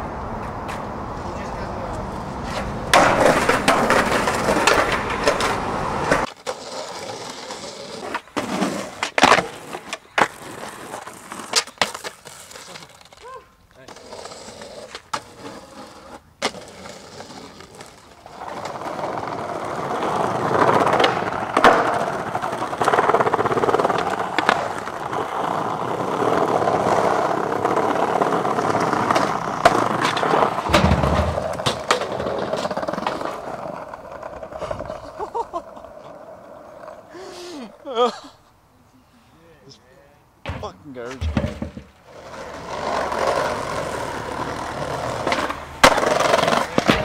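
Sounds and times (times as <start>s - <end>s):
skateboard wheels rolling on pavement: 0.0s - 47.0s
skateboard clacks: 0.4s - 13.3s, 13.9s - 37.0s, 40.6s - 47.0s.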